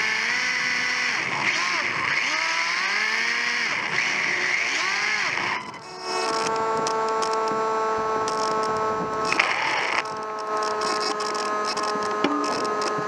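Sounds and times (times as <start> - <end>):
rc car electric motor whining: 0.0 - 13.0.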